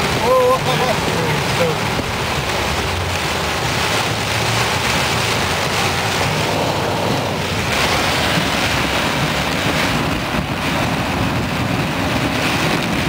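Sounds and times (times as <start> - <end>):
heavy rain on car roof: 0.0 - 13.0
road noise: 0.0 - 13.0.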